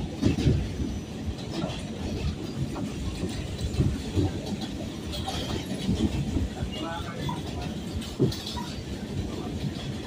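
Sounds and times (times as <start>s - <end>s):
subway car rumbling on track: 0.0s - 10.0s
wheels clacking over rail joints: 0.0s - 10.0s.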